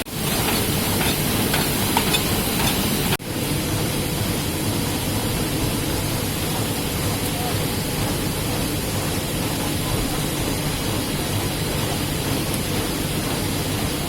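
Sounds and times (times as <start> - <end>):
offset printing press running: 0.0 - 14.0.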